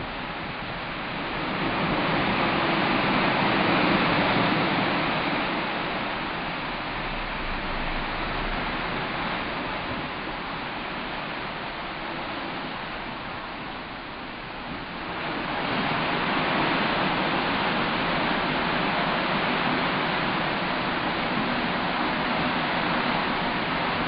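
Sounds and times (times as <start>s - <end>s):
sea water rushing along ship: 0.0s - 24.0s.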